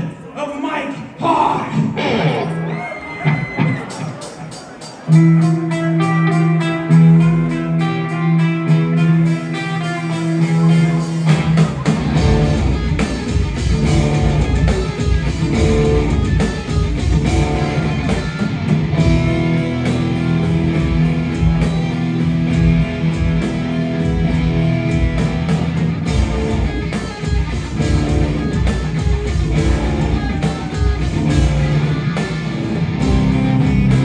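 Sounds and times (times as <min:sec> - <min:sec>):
drums: 0:00.0 - 0:34.0
electric guitar: 0:01.7 - 0:34.0
bass guitar: 0:05.0 - 0:34.0.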